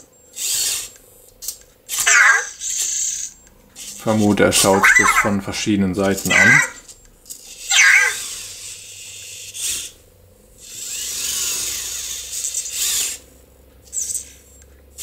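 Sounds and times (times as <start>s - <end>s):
toy robot motors whirring: 0.0s - 5.3s, 6.0s - 15.0s.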